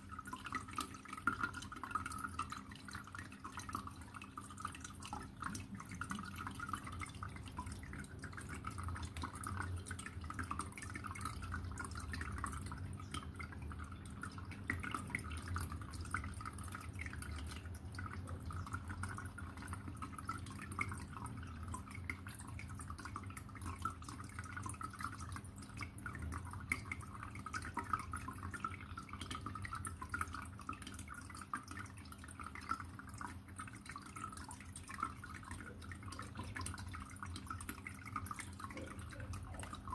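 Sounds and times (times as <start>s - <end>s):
aquarium water trickling: 0.0s - 39.9s
low steady hum: 0.0s - 39.9s.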